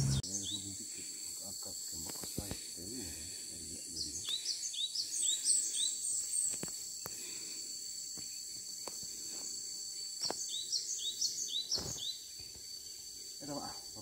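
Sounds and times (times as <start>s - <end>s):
bird chirping: 0.0s - 14.0s
high insect drone: 0.0s - 14.0s.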